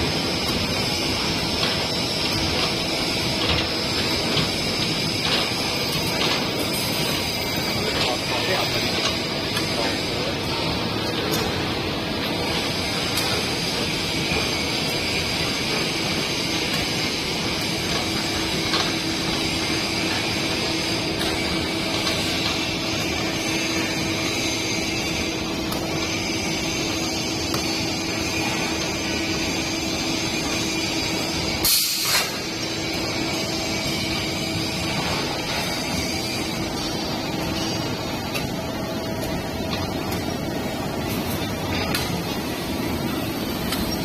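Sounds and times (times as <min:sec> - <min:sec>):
welding machine hissing: 0:00.0 - 0:44.0.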